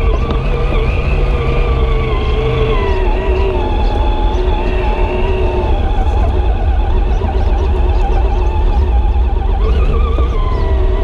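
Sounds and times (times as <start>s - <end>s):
electric motor and gear whine: 0.0s - 11.0s
low rumble of chassis vibration: 0.0s - 11.0s.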